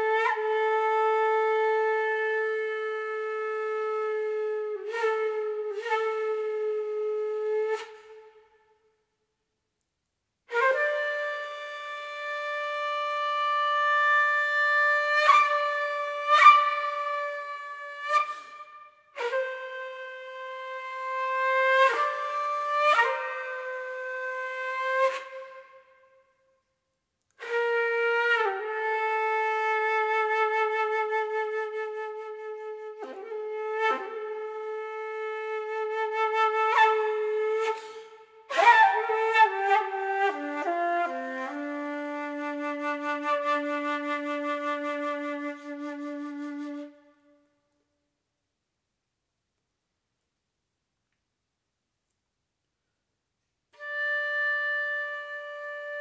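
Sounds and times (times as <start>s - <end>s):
solo flute improvising: 0.0s - 8.8s, 10.5s - 26.3s, 27.2s - 47.5s, 53.8s - 56.0s.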